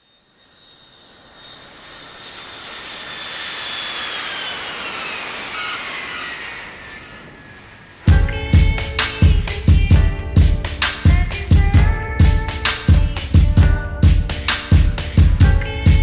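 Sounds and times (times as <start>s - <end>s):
high whine sliding down: 0.0s - 16.0s.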